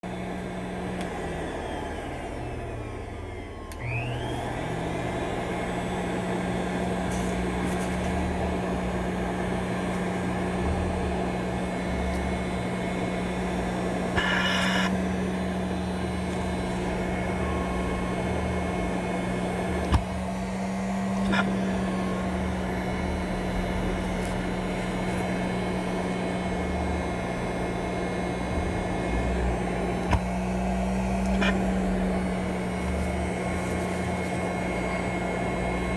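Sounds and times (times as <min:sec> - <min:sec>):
blower humming: 0:00.0 - 0:35.9.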